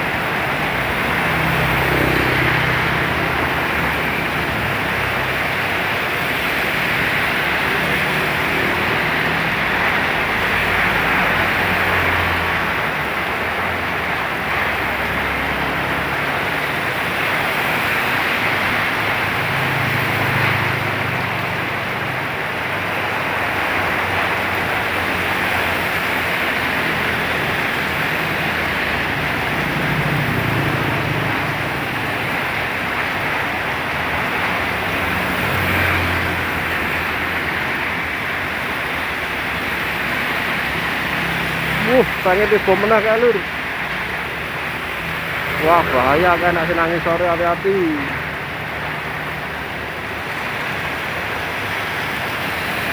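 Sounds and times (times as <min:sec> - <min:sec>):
heavy rain pouring: 0:00.0 - 0:52.9.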